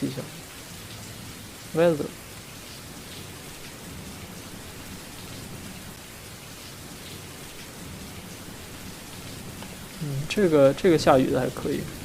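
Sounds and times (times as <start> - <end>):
rain hissing on a surface: 0.0 - 12.0.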